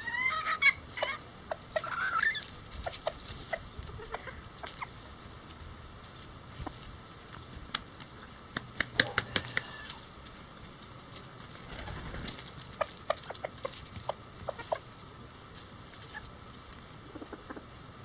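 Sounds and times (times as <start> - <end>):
chickens pecking corn cob: 0.0 - 17.8.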